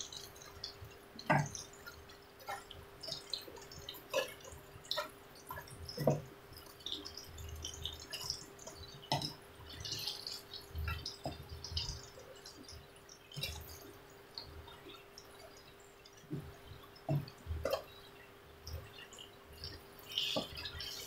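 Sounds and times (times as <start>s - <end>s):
oil sizzling and popping: 0.0s - 21.0s.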